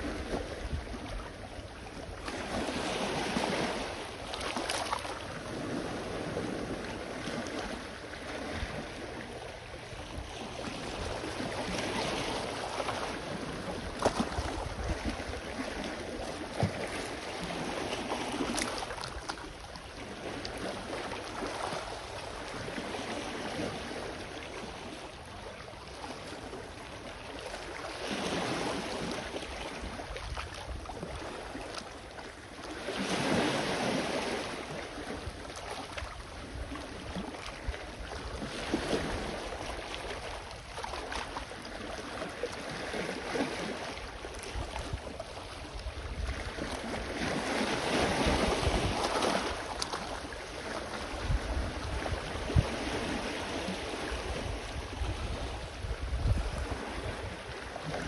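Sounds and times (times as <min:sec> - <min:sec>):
water splashes: 0:00.0 - 0:58.0
waves washing onto shore: 0:00.0 - 0:58.0
wind rumble on microphone: 0:00.0 - 0:58.0.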